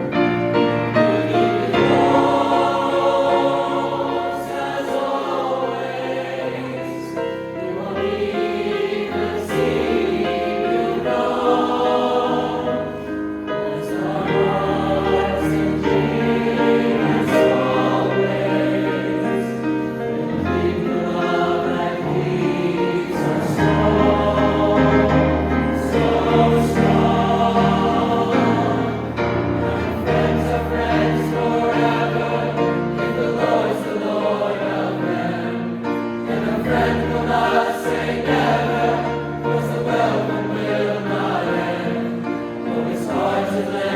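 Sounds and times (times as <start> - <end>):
choir singing in harmony: 0.0 - 43.9.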